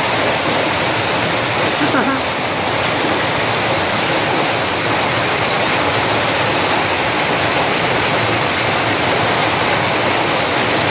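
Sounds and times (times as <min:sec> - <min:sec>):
hail clattering on tiles: 0:00.0 - 0:10.9.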